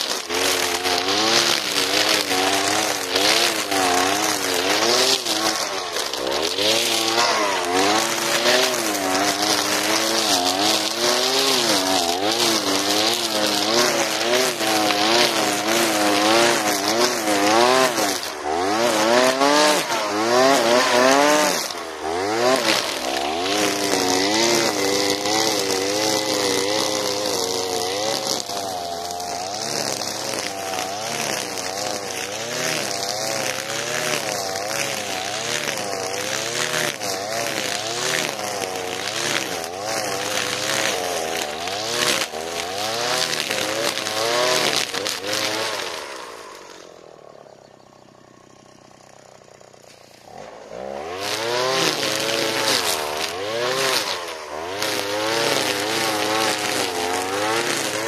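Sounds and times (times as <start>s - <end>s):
brushcutter running at high revs: 0.0s - 58.0s
nylon line cutting grass: 0.0s - 58.0s.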